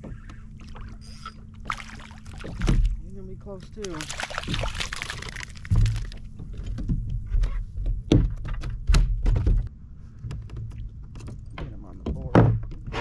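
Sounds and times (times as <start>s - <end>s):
knocks and thumps in a kayak: 0.0s - 0.8s, 1.7s - 3.1s, 4.4s - 13.0s.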